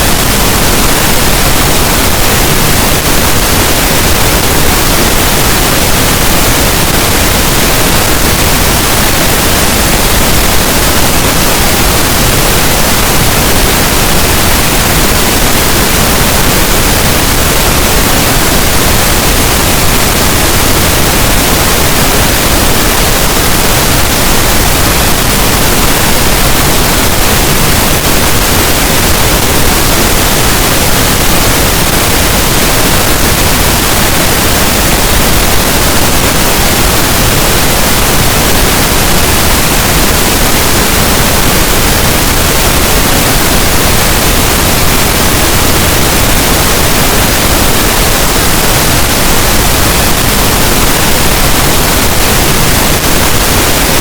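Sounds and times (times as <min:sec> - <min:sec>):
synthetic pink noise hiss: 0:00.0 - 0:54.0.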